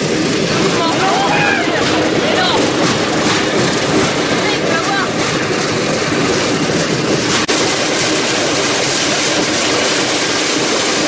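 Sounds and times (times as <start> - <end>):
steel wheels rattling on rails: 0.0 - 11.0
wind noise: 0.0 - 11.0.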